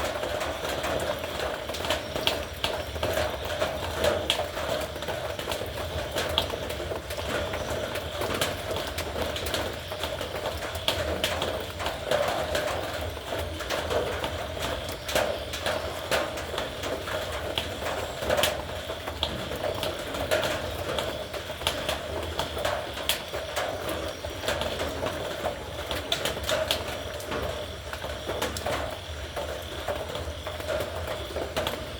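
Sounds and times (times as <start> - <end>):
heavy rain on a metal roof: 0.0 - 31.9.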